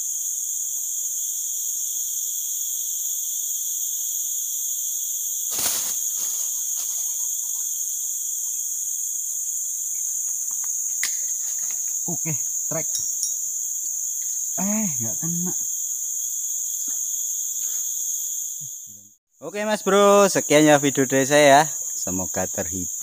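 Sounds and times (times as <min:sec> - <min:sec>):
forest insects chorus: 0:00.0 - 0:23.0.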